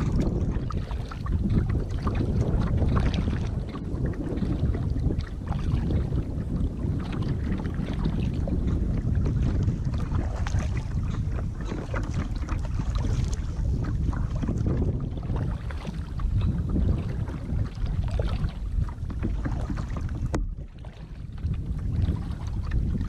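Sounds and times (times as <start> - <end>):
water lapping at kayak: 0.0 - 23.0
wind buffeting microphone: 0.0 - 23.0.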